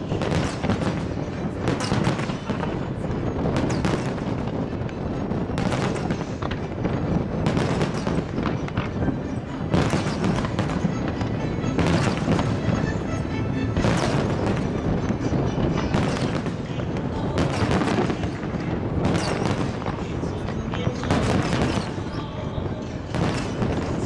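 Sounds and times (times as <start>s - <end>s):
fireworks bursts: 0.0s - 24.0s
fireworks crackle and rumble: 0.0s - 24.0s.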